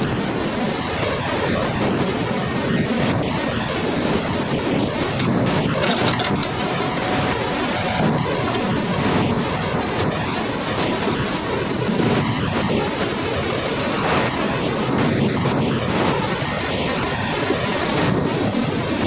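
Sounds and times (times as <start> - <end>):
wind buffeting microphone: 0.0 - 19.0
log crane machinery noise: 0.1 - 18.1.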